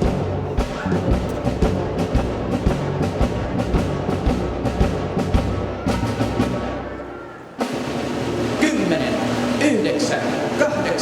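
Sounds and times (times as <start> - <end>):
orchestral music: 0.0 - 11.0
timpani beat: 0.0 - 11.0.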